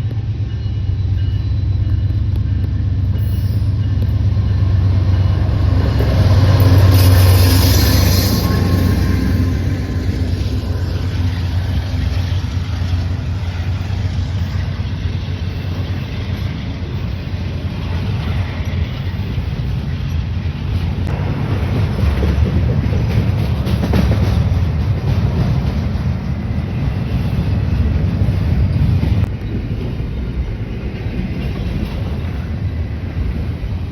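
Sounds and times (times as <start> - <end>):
train rolling past: 0.0 - 33.9.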